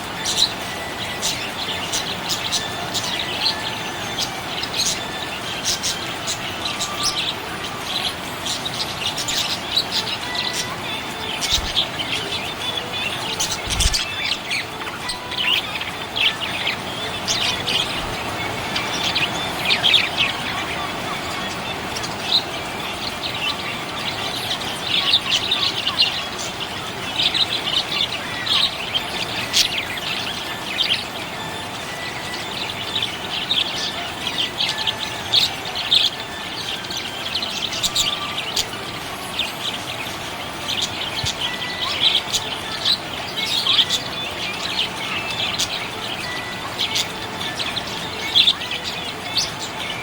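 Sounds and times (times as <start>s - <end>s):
parrots chirping: 0.0s - 50.0s.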